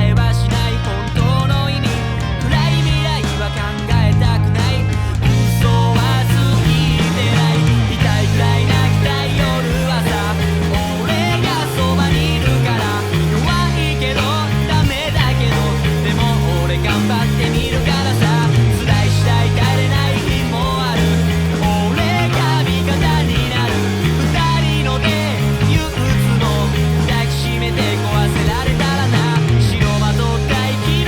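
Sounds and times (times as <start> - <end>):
electric bass line with slides: 0.0 - 31.0
rock band recording: 0.0 - 31.0.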